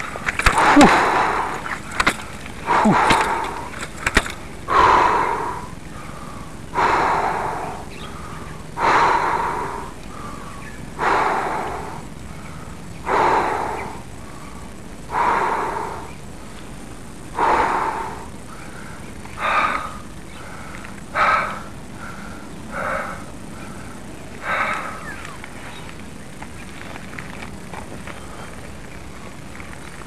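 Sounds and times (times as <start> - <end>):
heavy breathing: 0.0 - 16.6, 17.3 - 25.4.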